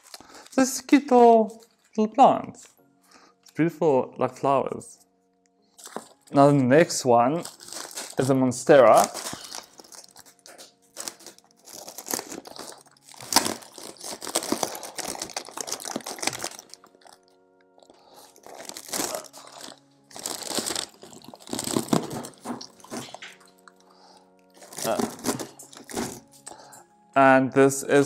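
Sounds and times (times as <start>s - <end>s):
plastic packaging crinkling: 0.0s - 2.0s, 5.8s - 26.7s.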